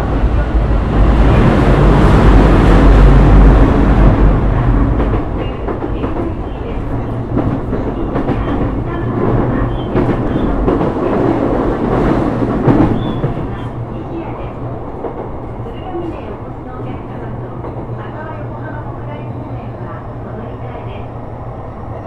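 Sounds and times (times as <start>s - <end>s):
train rumble from inside: 0.0s - 22.0s.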